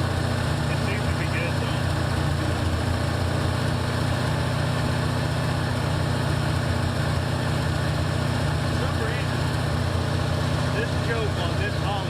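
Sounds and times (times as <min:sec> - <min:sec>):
car engine idling: 0:00.0 - 0:12.0
exhaust leaking: 0:00.0 - 0:12.0.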